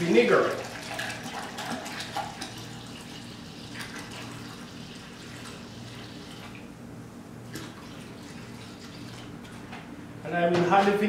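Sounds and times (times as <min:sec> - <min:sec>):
liquid pouring and splashing: 0:00.0 - 0:06.7, 0:07.4 - 0:09.6.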